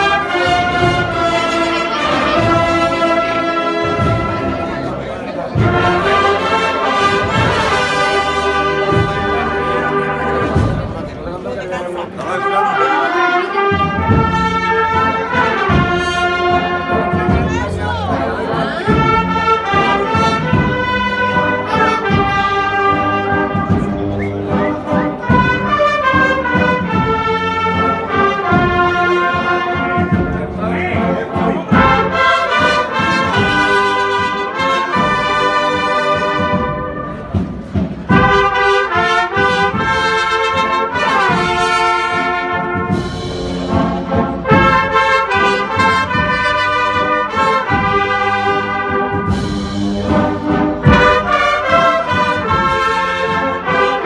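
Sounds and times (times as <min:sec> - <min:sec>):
brass band playing a march: 0:00.0 - 0:54.0.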